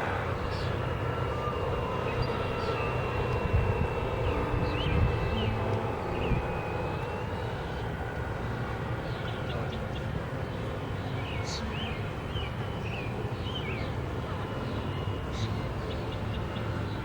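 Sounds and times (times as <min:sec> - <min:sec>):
low outdoor rumble: 0:00.0 - 0:17.0
birds chirping: 0:00.2 - 0:17.0.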